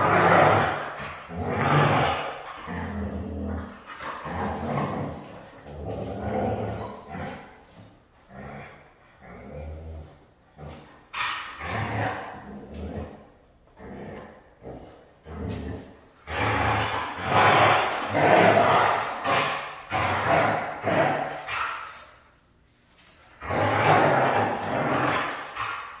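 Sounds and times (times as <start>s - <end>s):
dogs growling in play: 0.0s - 22.4s, 23.0s - 26.0s.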